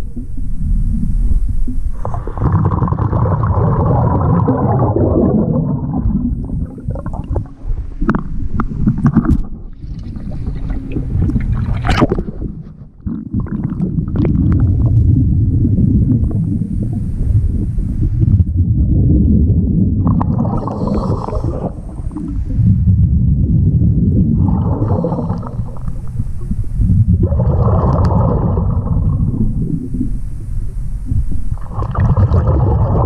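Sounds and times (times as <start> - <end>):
underwater bubbles gurgling: 0.0 - 33.0.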